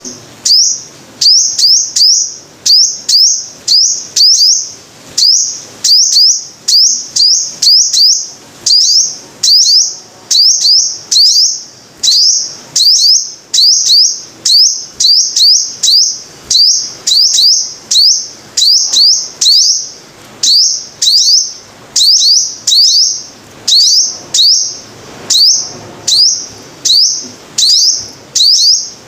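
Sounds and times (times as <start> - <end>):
bird chirping sharply: 0.0 - 29.0.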